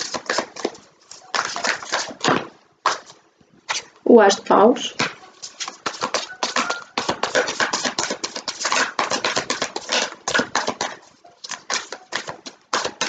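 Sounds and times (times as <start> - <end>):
cards being shuffled: 0.0 - 3.9, 5.0 - 13.0.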